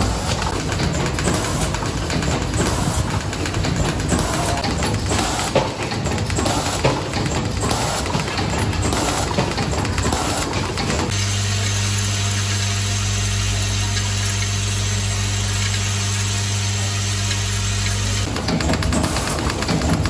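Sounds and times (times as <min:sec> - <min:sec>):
irregular machine sound: 0:00.0 - 0:20.0.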